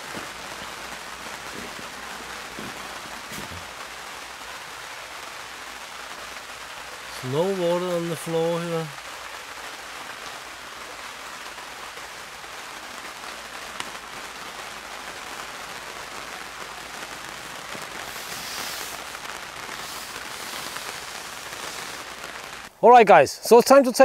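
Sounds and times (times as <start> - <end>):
rain on tent fabric: 0.0 - 24.0.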